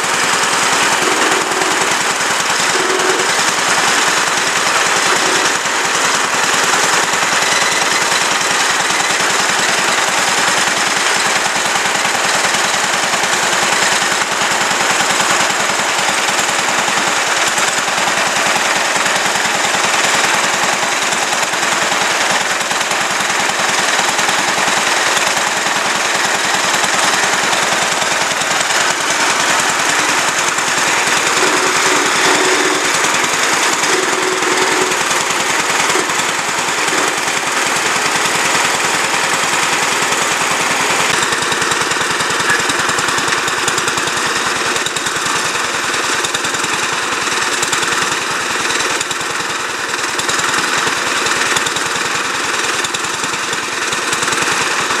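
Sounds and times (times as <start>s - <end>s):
single-cylinder engine popping: 0.0s - 55.0s.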